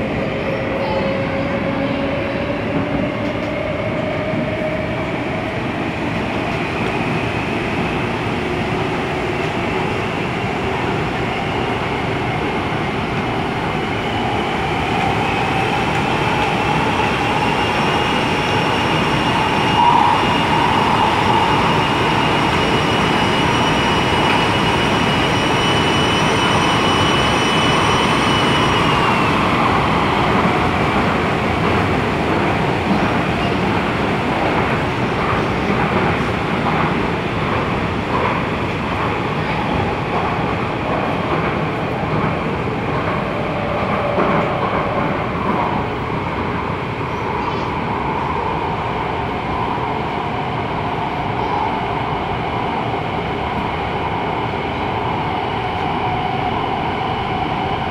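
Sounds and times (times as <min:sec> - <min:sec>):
train wheels rumbling: 0:00.0 - 0:57.9.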